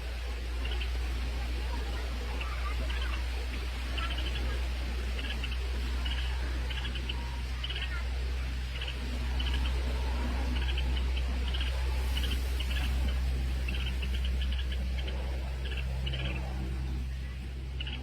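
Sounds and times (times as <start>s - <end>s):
low hum: 0.0s - 18.0s
bird chirping: 0.4s - 18.0s.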